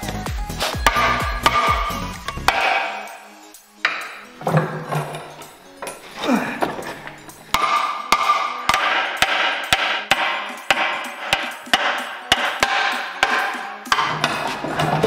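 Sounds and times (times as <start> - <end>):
hammer striking steel: 0.7 - 6.0, 7.4 - 15.0.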